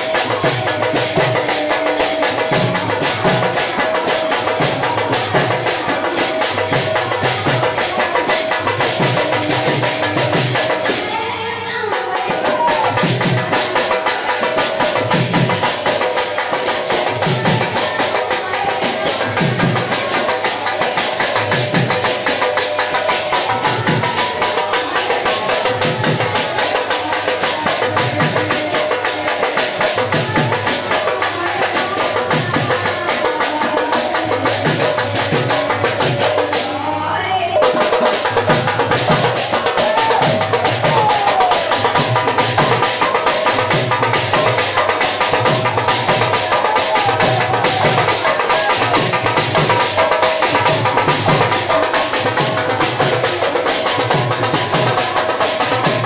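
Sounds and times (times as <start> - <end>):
drums beating fast rhythm: 0.0 - 56.0.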